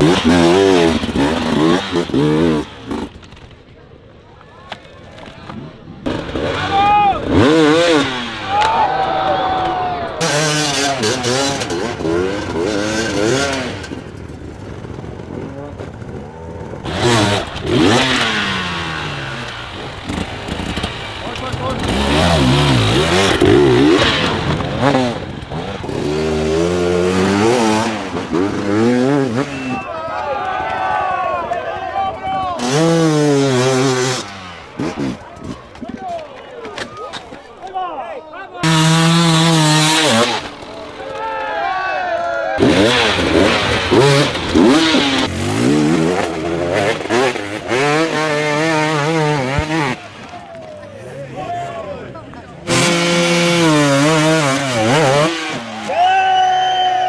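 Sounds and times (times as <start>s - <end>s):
dirt bike engine revving: 0.0s - 3.2s, 6.0s - 29.9s, 32.5s - 35.8s, 38.6s - 41.2s, 42.6s - 51.0s, 52.5s - 57.0s.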